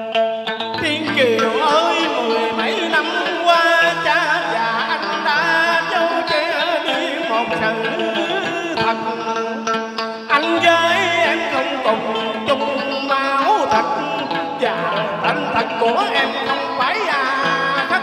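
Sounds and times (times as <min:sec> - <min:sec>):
sustained instrumental accompaniment: 0:00.0 - 0:18.0
person singing wavering vocal line: 0:00.7 - 0:18.0.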